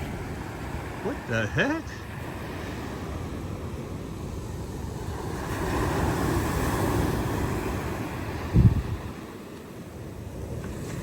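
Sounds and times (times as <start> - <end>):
sea surf: 0.0 - 11.0
wind buffeting microphone: 0.0 - 11.0.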